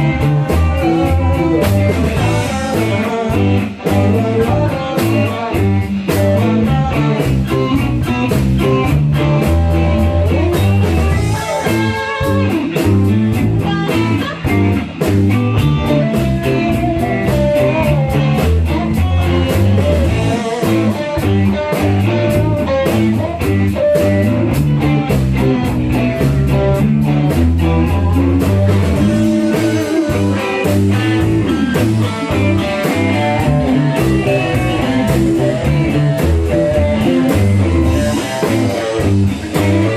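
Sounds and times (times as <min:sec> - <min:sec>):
guitar-led song with beat: 0:00.0 - 0:39.9.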